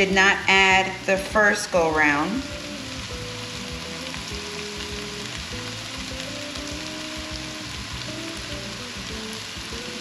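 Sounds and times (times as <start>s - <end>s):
onion frying in butter: 0.0s - 10.0s.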